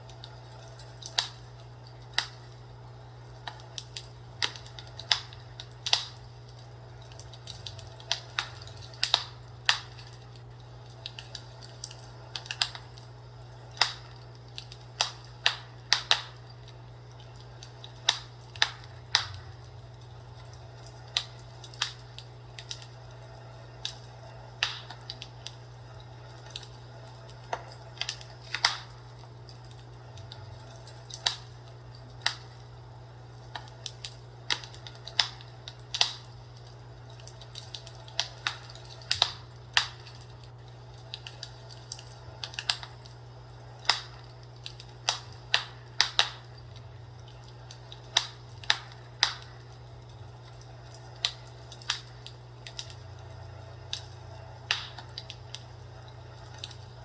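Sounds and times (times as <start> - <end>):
fireplace crackling: 0.0 - 57.0
steady low hum: 0.0 - 57.0.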